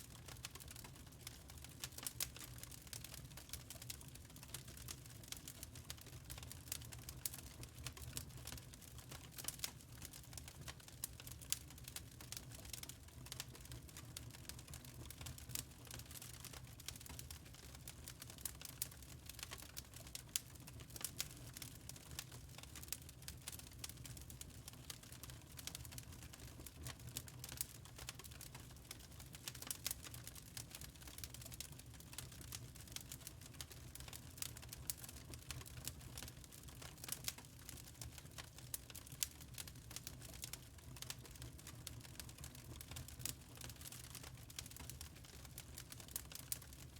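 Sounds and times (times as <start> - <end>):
low rumble of burning logs: 0.0 - 46.9
wood fire crackling: 0.0 - 46.9.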